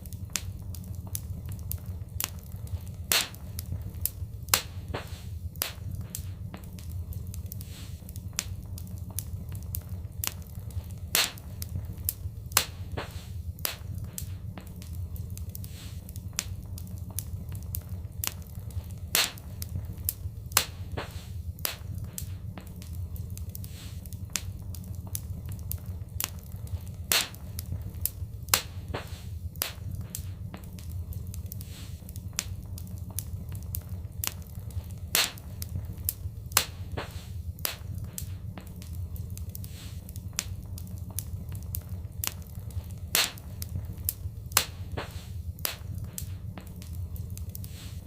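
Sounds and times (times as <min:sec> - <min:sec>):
low rumble of flames: 0:00.0 - 0:48.0
wood fire crackling and popping: 0:00.0 - 0:48.0.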